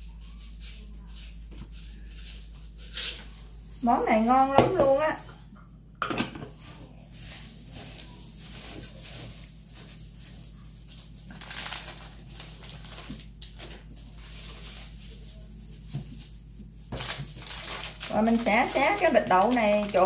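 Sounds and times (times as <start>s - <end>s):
rice flakes rustling in a bowl: 0.0s - 5.5s, 6.5s - 20.0s.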